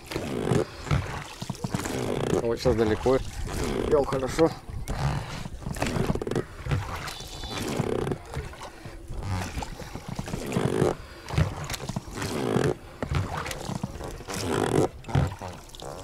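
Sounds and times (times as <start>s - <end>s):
oars creaking in oarlocks: 0.0s - 16.0s.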